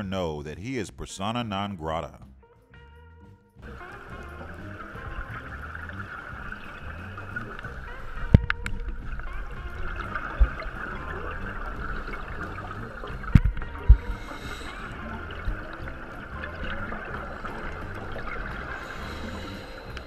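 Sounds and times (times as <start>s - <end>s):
gurgling exhaled bubbles: 3.6s - 20.0s
underwater water rush: 3.6s - 20.0s.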